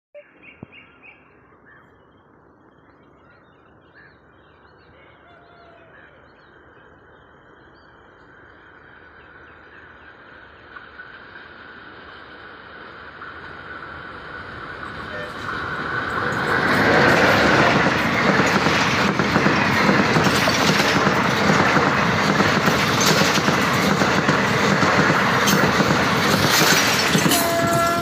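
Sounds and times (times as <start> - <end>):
approaching train noise: 3.6 - 28.0.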